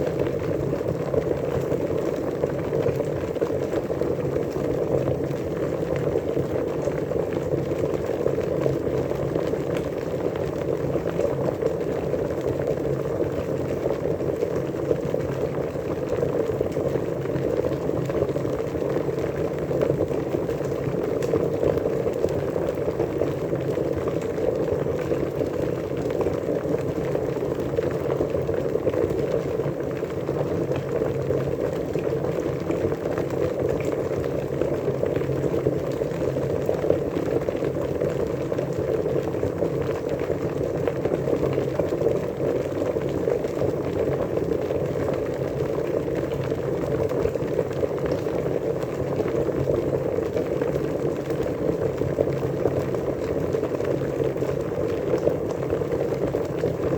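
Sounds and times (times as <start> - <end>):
water boiling and bubbling: 0.0 - 56.9.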